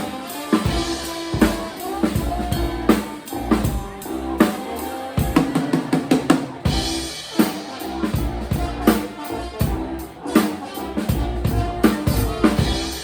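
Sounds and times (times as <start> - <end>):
drum kit hits: 0.0 - 13.0
held instrument notes: 0.0 - 13.0.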